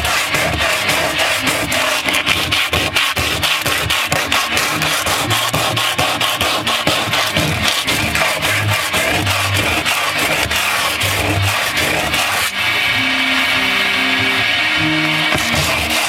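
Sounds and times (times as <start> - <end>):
sandpaper scratching wood: 0.0 - 12.9, 15.3 - 16.0.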